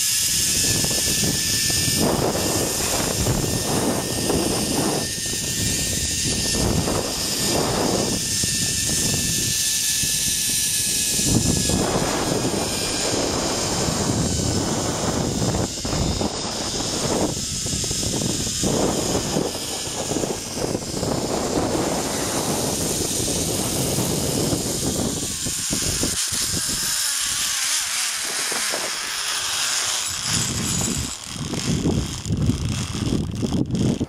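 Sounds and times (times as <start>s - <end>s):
wind buffeting microphone: 0.0s - 34.0s
zip-line trolley whirring on cable: 0.0s - 34.0s.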